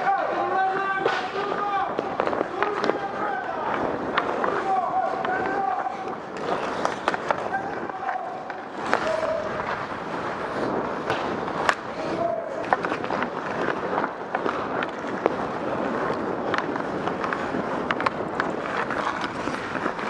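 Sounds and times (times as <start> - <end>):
hockey sticks and pucks clacking: 0.0 - 20.0
skate blades scraping ice: 0.0 - 20.0.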